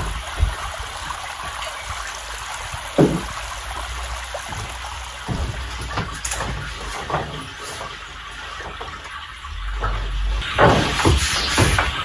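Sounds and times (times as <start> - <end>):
stream trickling: 0.0 - 12.0.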